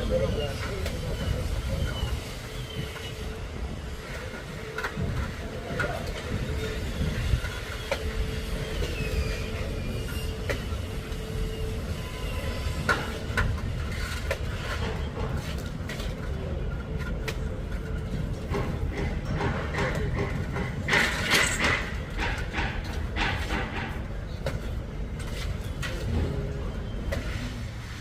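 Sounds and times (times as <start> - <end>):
low construction rumble: 0.0 - 28.0.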